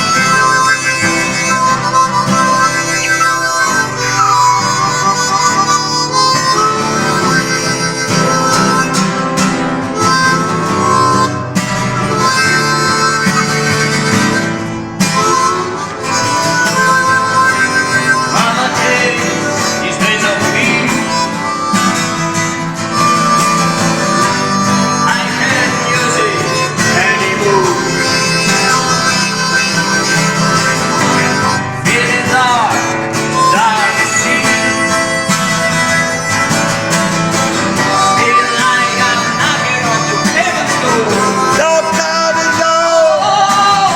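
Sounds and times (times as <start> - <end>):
blues harmonica bending notes: 0.0 - 43.9
guitar: 0.0 - 43.9.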